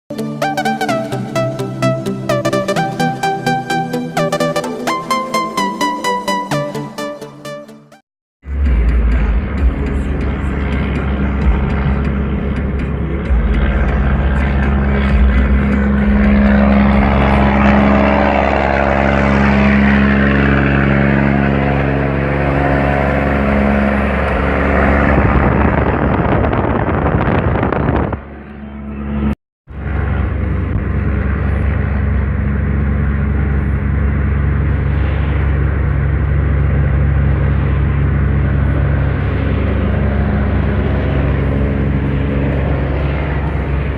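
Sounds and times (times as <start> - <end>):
loud diesel truck engine: 8.4 - 43.9.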